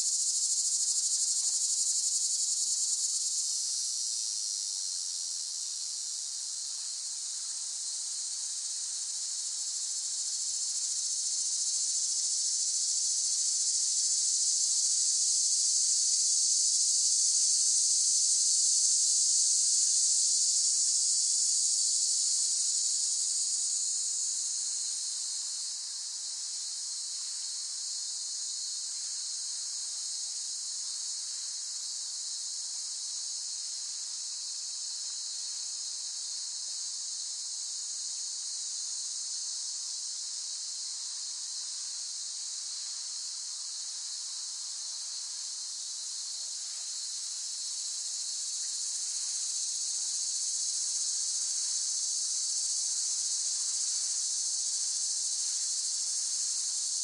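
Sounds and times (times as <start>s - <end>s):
cicadas buzzing: 0.0s - 5.3s, 6.6s - 57.0s.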